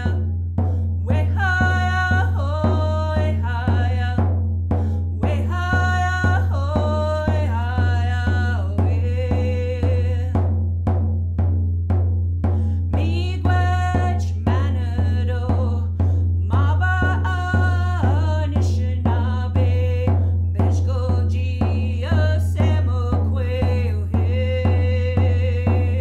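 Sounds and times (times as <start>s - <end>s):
woman singing vocables: 0.0s - 0.3s, 1.0s - 10.5s, 12.9s - 26.0s
hand drum beat: 0.0s - 26.0s.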